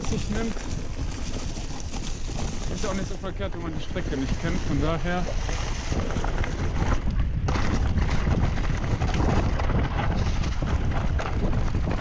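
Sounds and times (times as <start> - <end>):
bike tyres and frame rattling: 0.0 - 12.0
wind buffeting microphone: 0.0 - 12.0.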